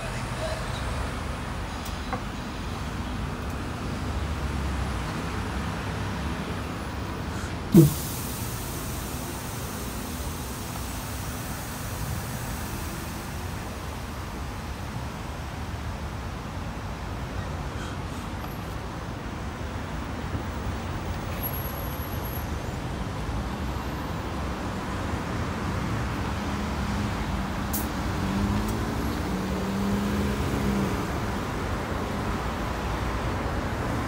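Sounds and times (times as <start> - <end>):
bus engine rumble: 0.0 - 34.0
road traffic: 0.0 - 34.0.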